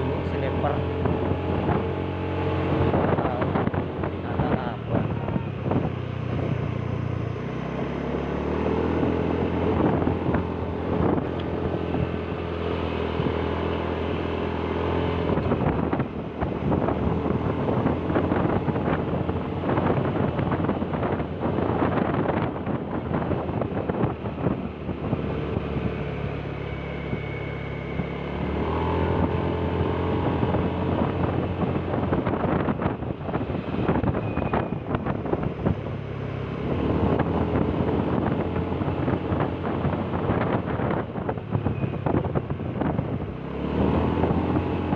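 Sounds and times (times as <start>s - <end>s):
vehicle engine running: 0.0s - 44.9s
wind buffeting microphone: 0.0s - 44.9s.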